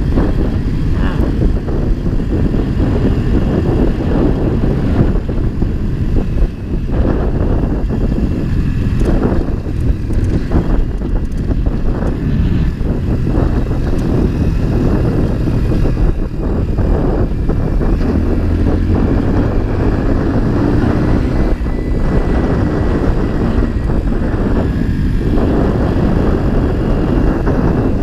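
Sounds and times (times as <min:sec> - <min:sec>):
motorcycle running: 0:00.0 - 0:28.0
road noise: 0:00.0 - 0:28.0
wind buffeting microphone: 0:00.0 - 0:28.0.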